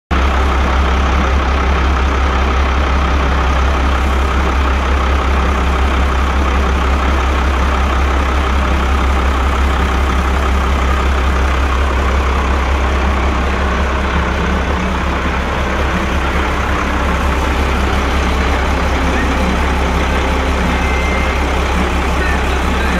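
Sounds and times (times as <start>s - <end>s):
diesel engine idling: 0.1s - 22.9s.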